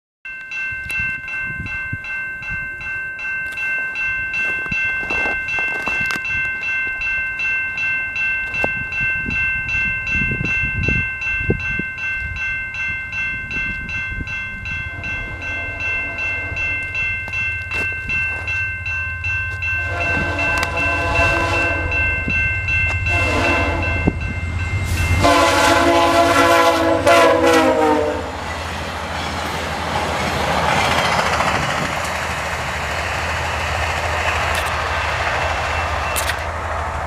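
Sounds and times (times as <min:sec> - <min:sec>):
level crossing warning bell: 0:00.2 - 0:37.0
train rumble: 0:00.8 - 0:37.0.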